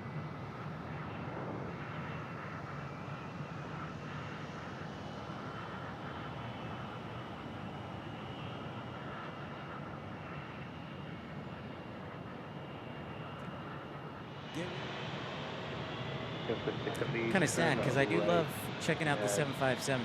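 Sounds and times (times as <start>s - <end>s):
jet engines rumbling with whine: 0.0s - 20.0s.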